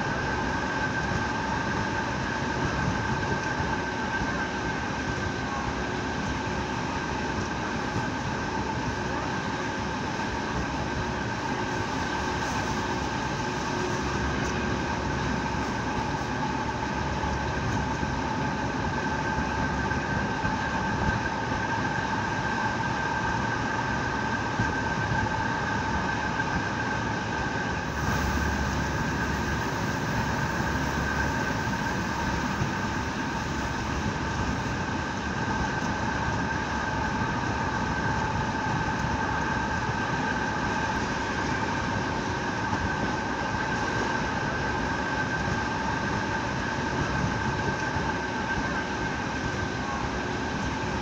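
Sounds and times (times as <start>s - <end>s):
high whine: 0.0s - 22.2s, 27.2s - 51.0s
diesel railcar engine: 0.0s - 51.0s.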